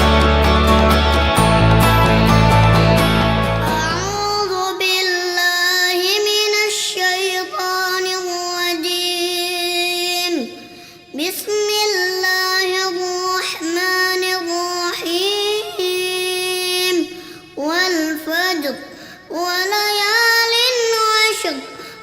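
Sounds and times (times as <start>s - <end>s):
boy chanting melodically: 3.7s - 22.0s.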